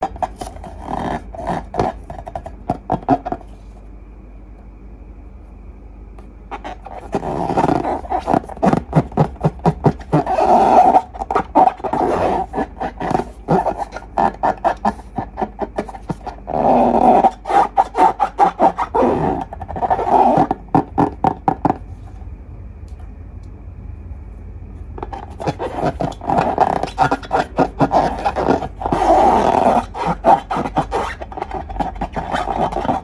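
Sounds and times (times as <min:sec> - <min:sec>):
balloon neck sputtering: 0:00.0 - 0:03.5, 0:06.5 - 0:21.8, 0:25.0 - 0:33.0.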